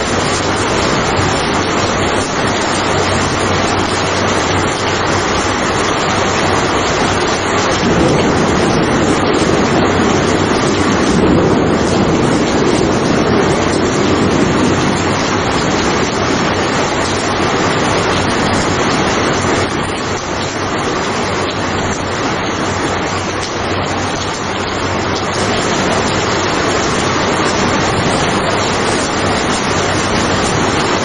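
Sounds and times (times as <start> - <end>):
steady rainfall: 0.0 - 31.0.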